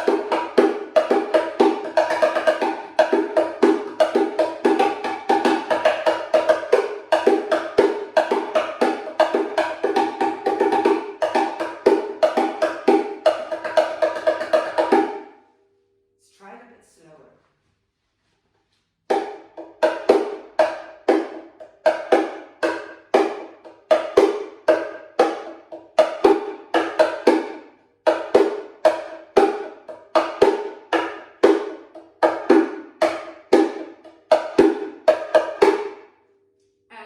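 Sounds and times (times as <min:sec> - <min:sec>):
box drum played by hand: 0:00.0 - 0:15.3, 0:19.1 - 0:35.9.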